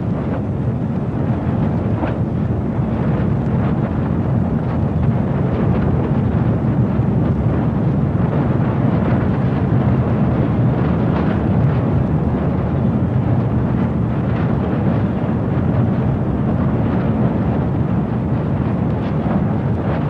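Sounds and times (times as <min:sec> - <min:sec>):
steady deep rumbling noise: 0:00.0 - 0:20.0.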